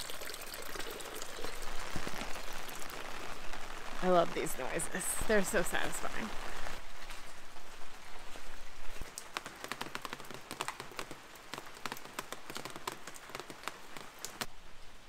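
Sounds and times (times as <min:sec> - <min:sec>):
rain hiss: 0:00.0 - 0:15.0
raindrops pattering: 0:00.0 - 0:15.0.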